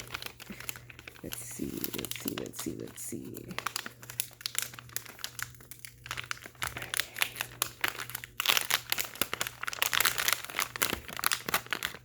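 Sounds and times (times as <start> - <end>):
paper crinkling and rustling: 0.0 - 12.0.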